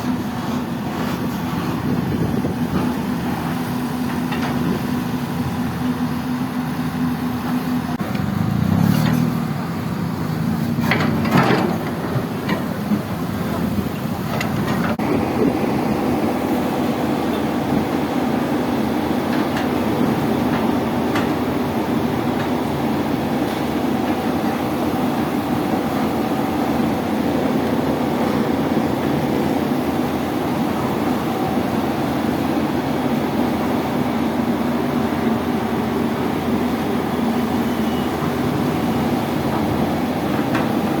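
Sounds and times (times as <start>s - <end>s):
excavator diesel engine droning: 0.0s - 41.0s.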